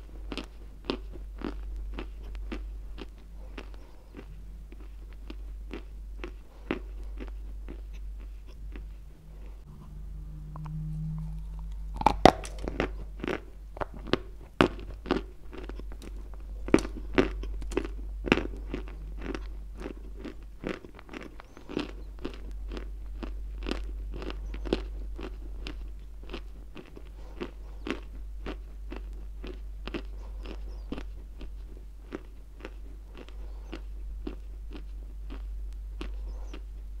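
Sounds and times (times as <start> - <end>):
crunching and chewing chalk: 0.0 - 10.0, 10.6 - 37.0.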